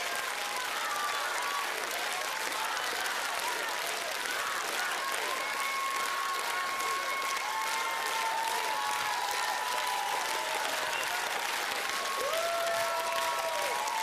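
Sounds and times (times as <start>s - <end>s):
audience applauding: 0.0s - 14.0s
drawn-out cheers: 0.0s - 14.0s.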